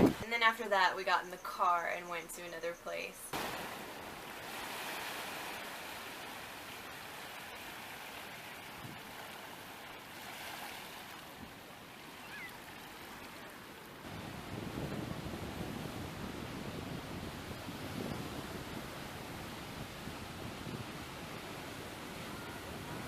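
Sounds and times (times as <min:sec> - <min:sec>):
ocean surf washing on shore: 0:03.3 - 0:23.0.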